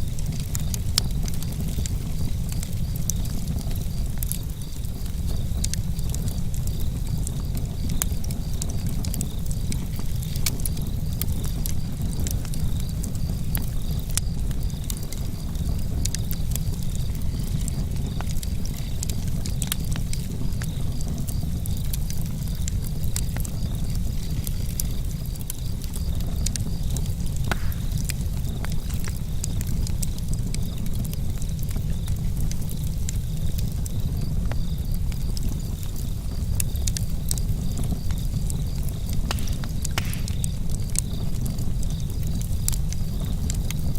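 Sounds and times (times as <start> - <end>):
campfire crackling and popping: 0.0 - 43.9
crickets chirping: 0.0 - 43.9.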